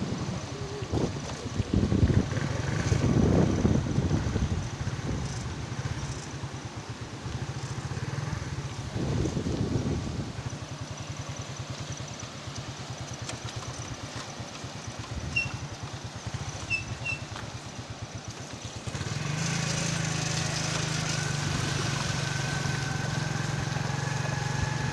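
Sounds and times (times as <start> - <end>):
small engine pulsing: 0.0 - 24.9.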